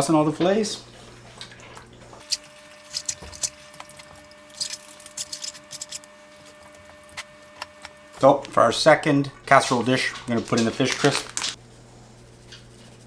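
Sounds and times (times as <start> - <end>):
wet squishy sounds: 0.9 - 11.6.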